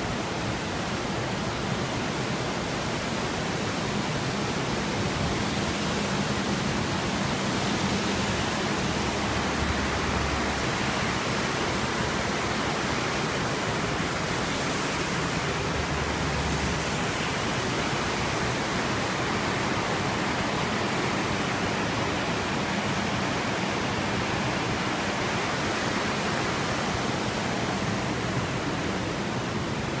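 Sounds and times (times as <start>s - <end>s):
river rapids rushing: 0.0s - 30.0s.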